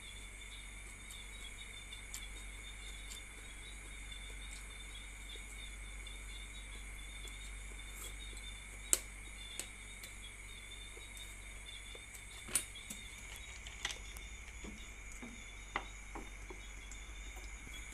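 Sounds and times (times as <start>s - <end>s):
crickets chirring: 0.0s - 17.9s.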